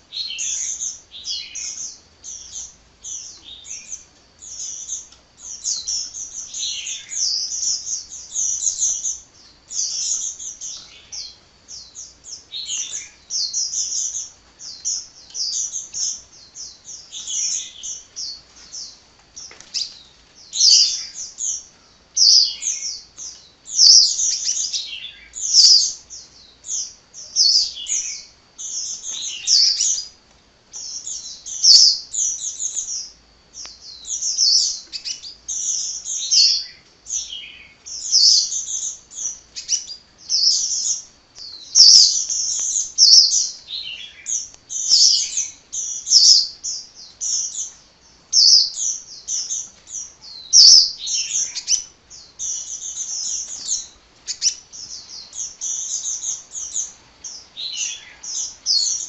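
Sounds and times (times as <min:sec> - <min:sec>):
bird chirping and twittering: 0:00.0 - 0:59.0.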